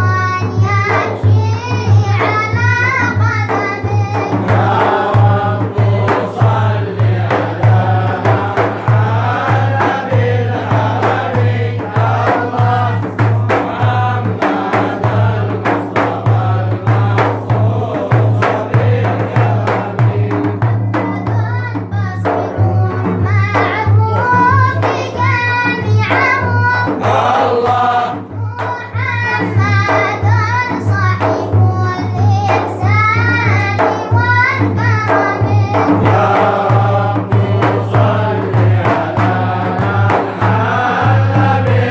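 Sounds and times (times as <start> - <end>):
group chanting a devotional song: 0.0 - 41.9
rhythmic beats: 0.2 - 41.9.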